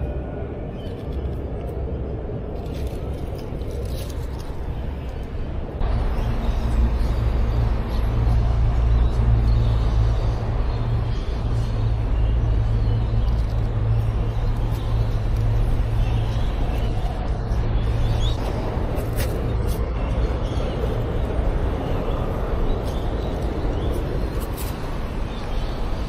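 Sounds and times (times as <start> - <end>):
vehicle traffic rumble: 0.0 - 26.0.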